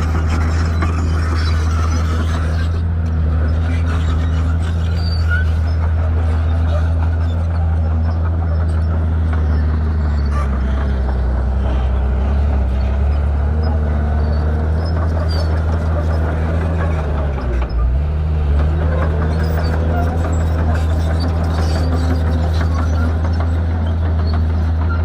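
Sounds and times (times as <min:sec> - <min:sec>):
bulldozer diesel engine drone: 0:00.0 - 0:25.0.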